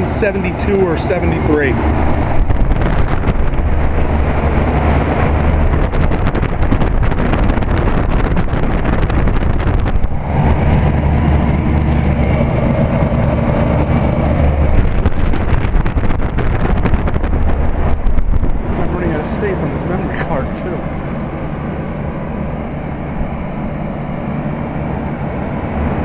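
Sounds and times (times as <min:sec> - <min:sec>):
condenser fan noise: 0:00.0 - 0:26.0
low hum: 0:00.0 - 0:26.0.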